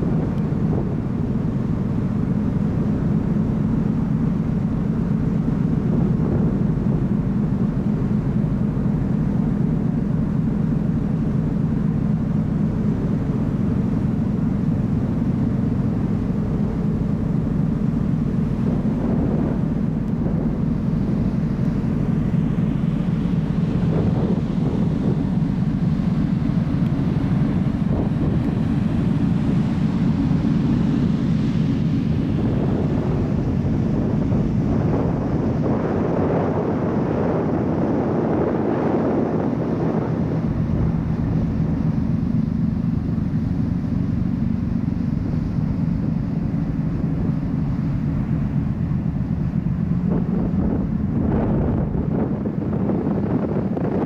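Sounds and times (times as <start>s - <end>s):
ferry engine drone: 0.0s - 54.0s
wind buffeting microphone: 0.0s - 54.0s.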